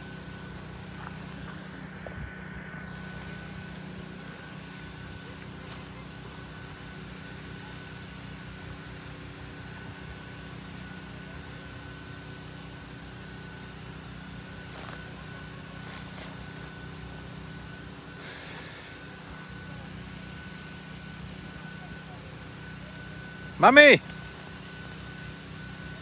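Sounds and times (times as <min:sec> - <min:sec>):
machine hum with high tone: 0:00.0 - 0:26.0.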